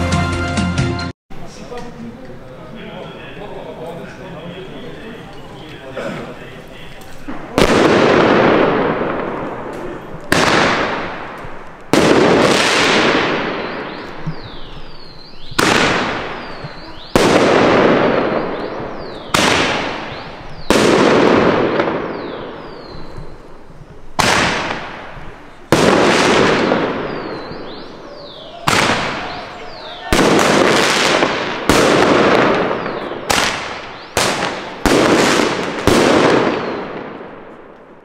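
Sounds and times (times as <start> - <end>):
firework mortar bangs: 7.2 - 38.0.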